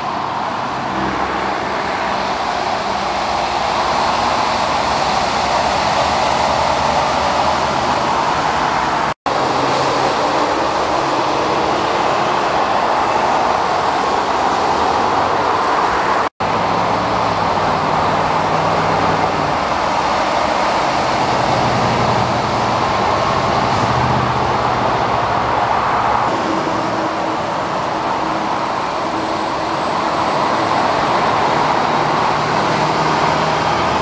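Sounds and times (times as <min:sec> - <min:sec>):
truck engines droning: 0:00.0 - 0:34.0
tyres hissing on wet road: 0:00.0 - 0:34.0.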